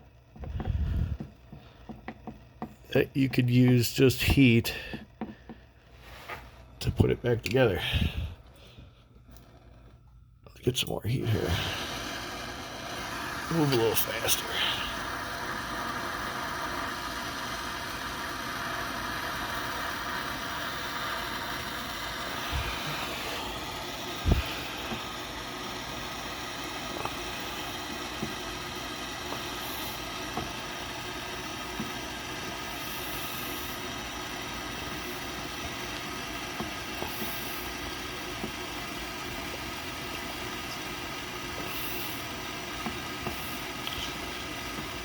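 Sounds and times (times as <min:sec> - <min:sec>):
torch hissing: 0:00.0 - 0:05.3, 0:11.1 - 0:45.0.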